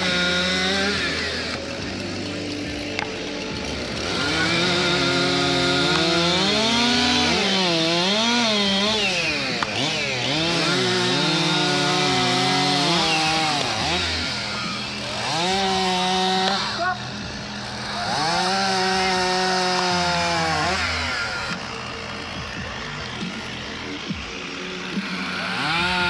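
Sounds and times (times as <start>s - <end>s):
chainsaws cutting logs: 0.0s - 26.0s.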